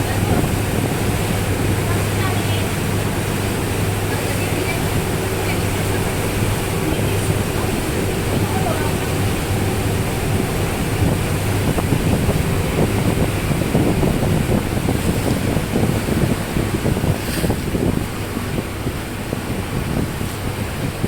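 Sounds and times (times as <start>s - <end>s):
ship engines humming: 0.0s - 21.0s
water churning along hull: 0.0s - 21.0s
wind buffeting microphone: 0.0s - 21.0s.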